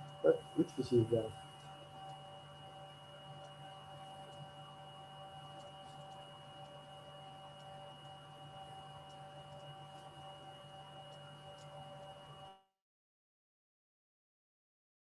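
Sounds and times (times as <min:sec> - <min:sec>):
electrical hum: 0:00.0 - 0:12.7
thin high whine: 0:00.0 - 0:12.7.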